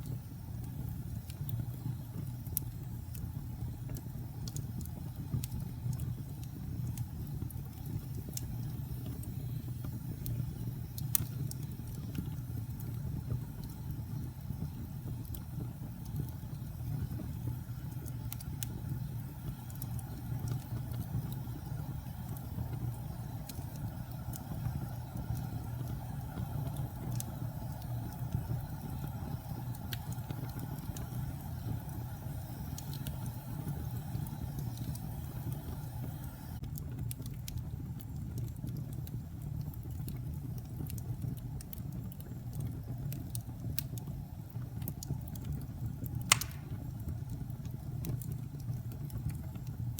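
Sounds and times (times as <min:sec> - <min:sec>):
fire hissing: 0:00.0 - 0:38.1, 0:38.8 - 0:49.9
fire crackling and popping: 0:00.0 - 0:49.9
fire rumbling in fireplace: 0:00.0 - 0:49.9.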